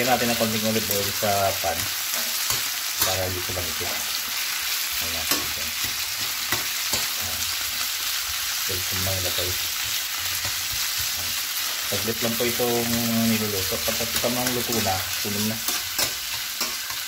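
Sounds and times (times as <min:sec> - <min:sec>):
chicken sizzling in a frying pan: 0:00.0 - 0:17.0.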